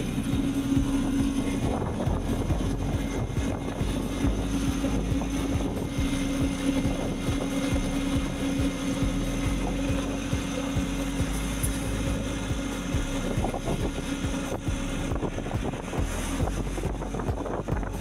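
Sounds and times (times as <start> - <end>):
paving machine engine drone: 0.0 - 18.0.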